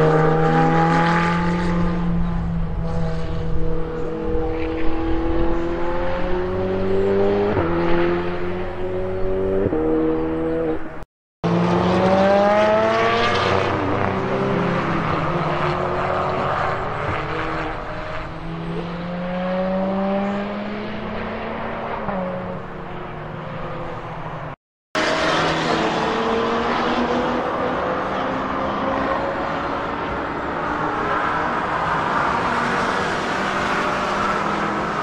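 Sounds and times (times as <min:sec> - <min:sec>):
sports car accelerating with upshifts: 0:00.0 - 0:35.0.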